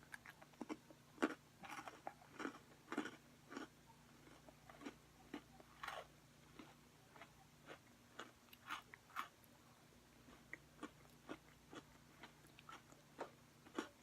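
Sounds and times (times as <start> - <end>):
cookies crunching while chewed: 0.0 - 9.5, 10.2 - 14.0.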